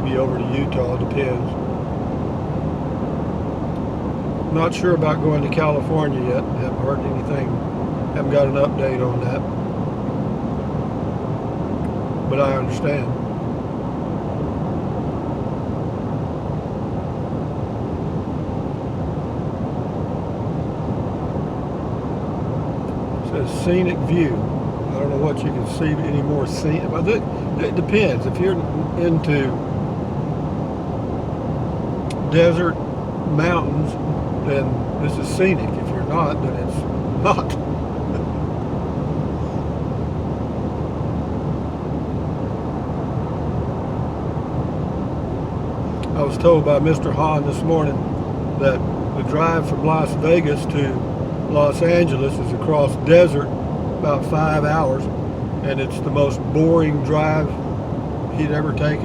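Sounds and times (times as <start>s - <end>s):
road and engine noise in vehicle: 0.0s - 59.0s.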